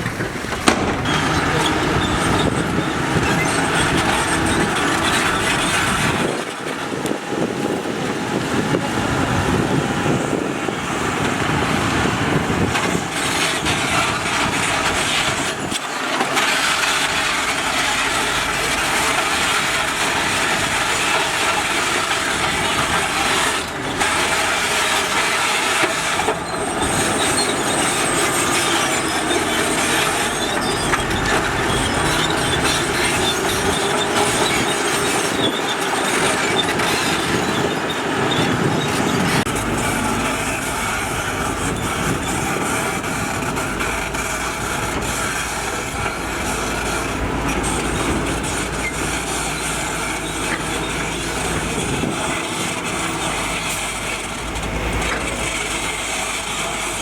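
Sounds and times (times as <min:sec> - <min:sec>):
heavy diesel machinery running: 0:00.0 - 0:57.0
machinery clanking and grinding: 0:00.0 - 0:57.0.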